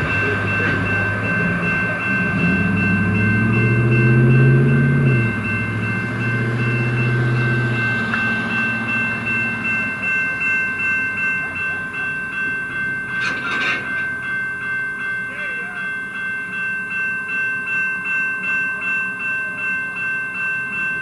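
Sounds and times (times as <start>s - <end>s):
diesel locomotive engine: 0.0s - 21.0s
high-pitched ringing tone: 0.0s - 21.0s
rhythmic train clatter: 0.0s - 21.0s.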